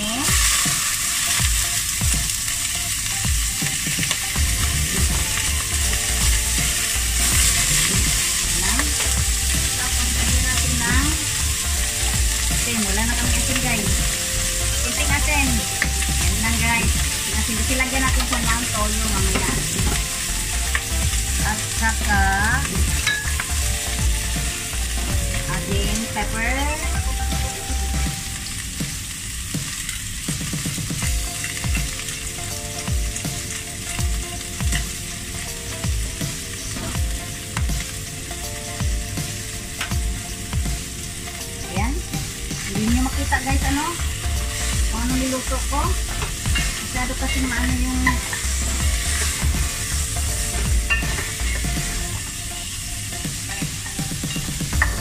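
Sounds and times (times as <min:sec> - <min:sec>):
pork sizzling in a pot: 0:00.0 - 0:55.0.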